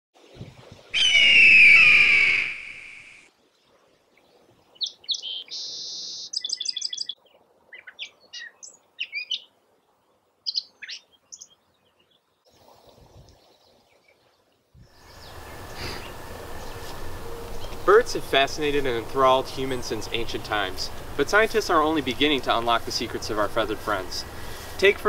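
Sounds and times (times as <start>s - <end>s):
outdoor background noise: 0.2s - 25.0s
songbird singing: 1.0s - 3.2s, 4.2s - 12.6s, 13.2s - 25.0s.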